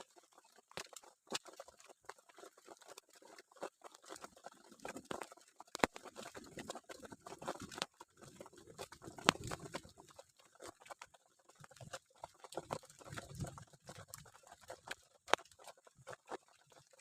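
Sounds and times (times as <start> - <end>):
raindrops pattering: 0.1 - 17.0.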